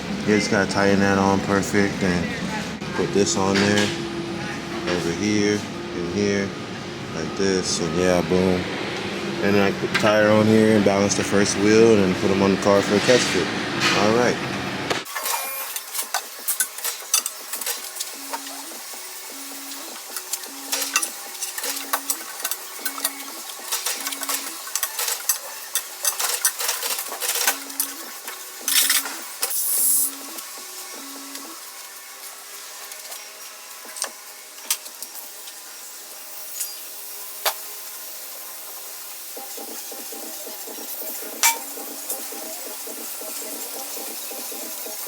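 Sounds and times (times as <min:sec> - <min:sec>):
steady machine hum: 0:00.0 - 0:34.6, 0:38.3 - 0:45.0.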